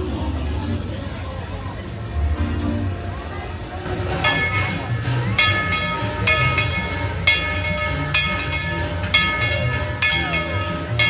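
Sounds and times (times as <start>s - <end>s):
rumble of moving train: 0.0s - 11.0s
train bell ringing: 1.1s - 11.0s.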